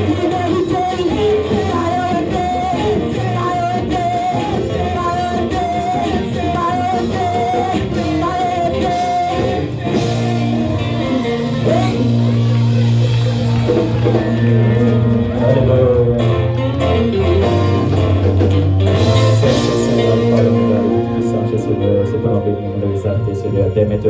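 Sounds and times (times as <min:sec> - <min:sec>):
singers on microphones: 0:00.0 - 0:17.9, 0:19.0 - 0:24.0
electric guitar: 0:00.0 - 0:24.0
keyboard: 0:00.0 - 0:24.0.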